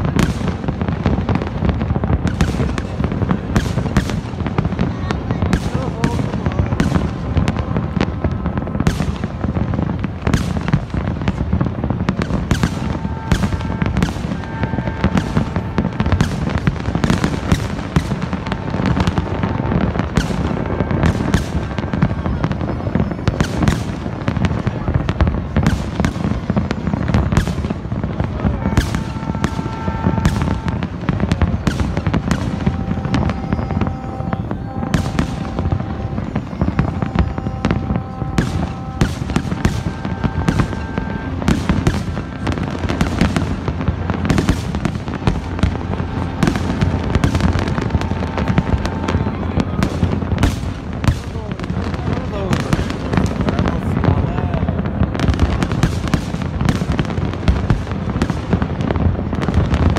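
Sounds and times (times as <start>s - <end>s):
fireworks bangs and crackles: 0.0s - 59.9s
long steady horn tones: 0.0s - 59.9s
low rumble of bursts: 0.0s - 59.9s.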